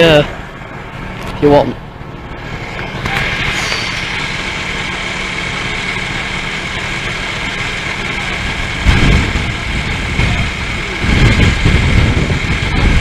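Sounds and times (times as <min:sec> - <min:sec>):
vehicle engine idling: 0:00.0 - 0:13.0
low rumble: 0:00.4 - 0:13.0.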